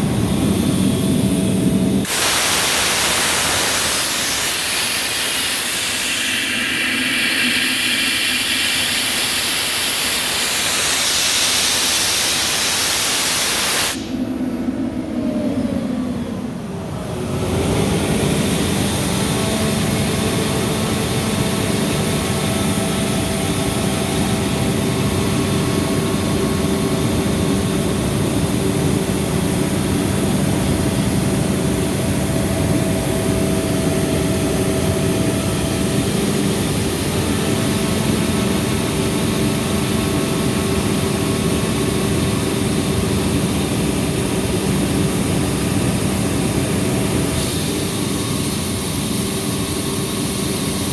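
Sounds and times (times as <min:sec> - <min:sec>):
air compressor engine drone: 0:00.0 - 0:50.9
compressor whine: 0:00.0 - 0:50.9.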